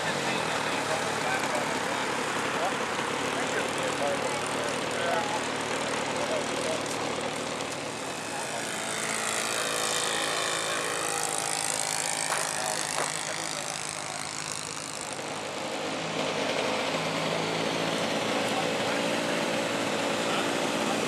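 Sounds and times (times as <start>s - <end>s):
model plane motor droning: 0.0s - 21.0s.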